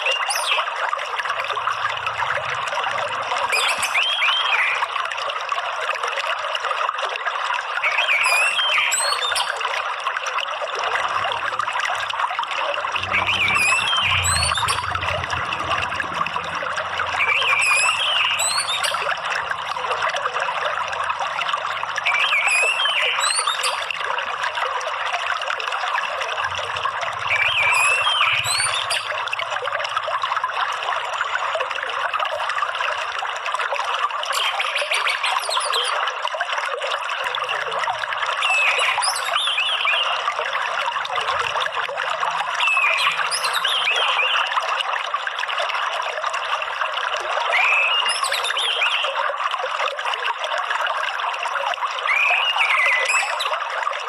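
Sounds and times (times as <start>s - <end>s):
trickle of running water: 0.0s - 54.0s.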